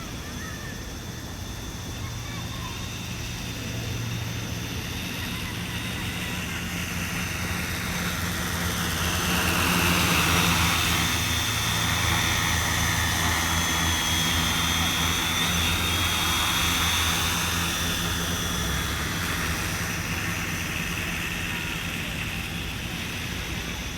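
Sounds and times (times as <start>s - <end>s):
drone rotors buzzing: 0.0s - 23.9s.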